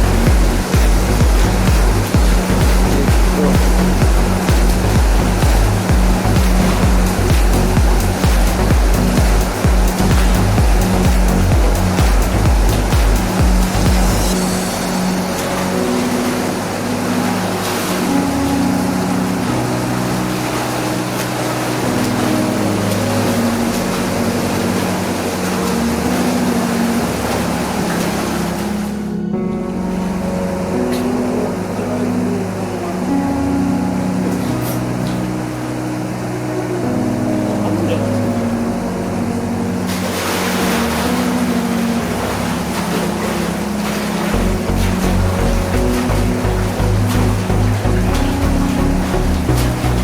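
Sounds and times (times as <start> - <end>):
background music: 0.0 - 50.0
low hum shifting pitch: 0.0 - 50.0
rushing water current: 0.0 - 50.0.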